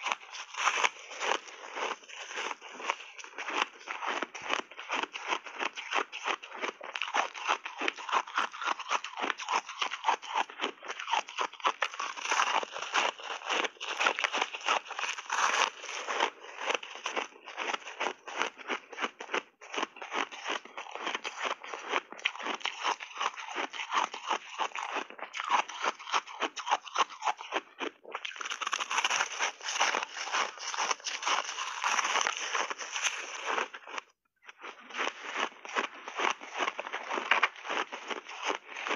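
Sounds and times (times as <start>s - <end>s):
ice being chewed crunching: 0.0s - 38.9s.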